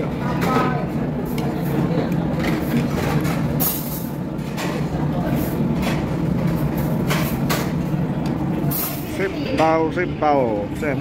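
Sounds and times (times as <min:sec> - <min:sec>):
low background rumble and hum: 0:00.0 - 0:11.0.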